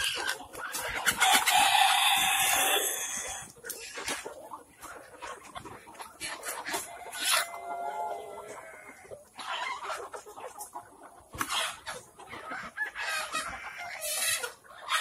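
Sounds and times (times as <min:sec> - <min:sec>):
chickens clucking and squawking: 0:00.0 - 0:15.0.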